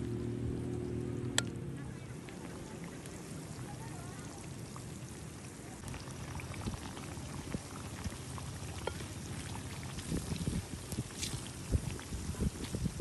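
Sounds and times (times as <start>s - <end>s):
pot boiling with pops: 0.0s - 13.0s.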